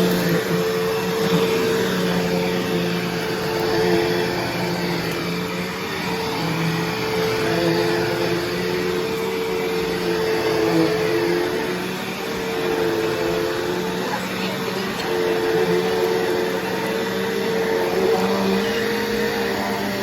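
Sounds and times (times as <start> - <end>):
upright vacuum motor hum: 0.0 - 20.0.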